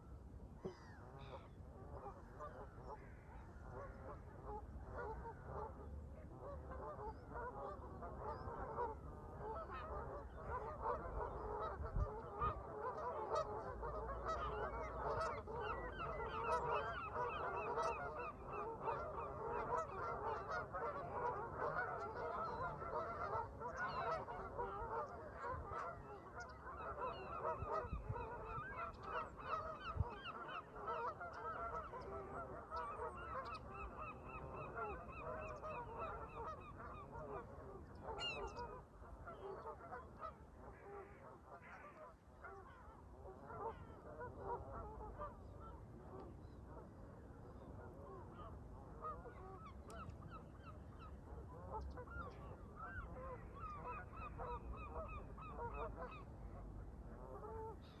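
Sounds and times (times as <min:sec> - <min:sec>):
geese honking: 0:06.4 - 0:45.7, 0:48.1 - 0:56.3.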